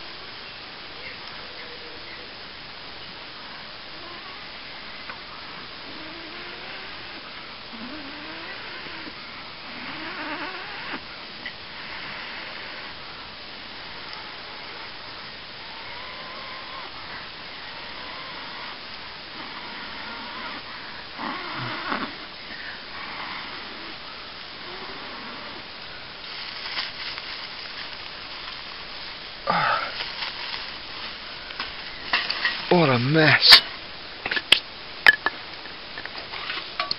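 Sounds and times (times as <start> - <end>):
steady hiss: 0.0 - 36.9
dry grass rustling: 5.7 - 36.9.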